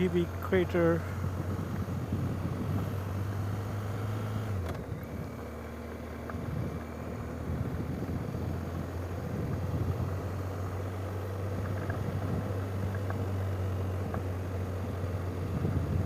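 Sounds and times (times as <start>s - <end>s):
vehicle driving: 0.0s - 16.0s.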